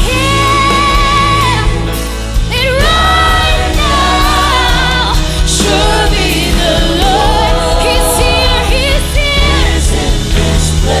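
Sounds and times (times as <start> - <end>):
group singing gospel song: 0.0 - 11.0
steady bass accompaniment: 0.0 - 11.0.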